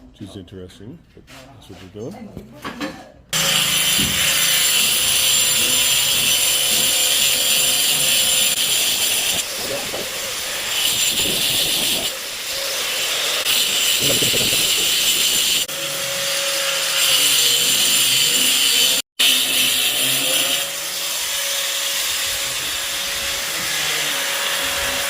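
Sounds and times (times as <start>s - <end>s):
angle grinder cutting: 3.4s - 25.0s.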